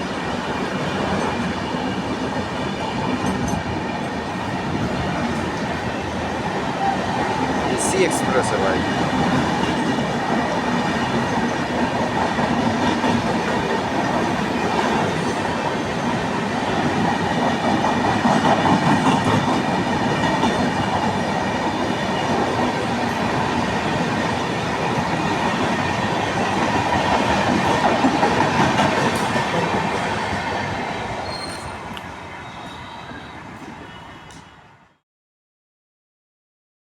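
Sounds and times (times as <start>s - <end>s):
train wheels clattering on rails: 0.0s - 34.5s.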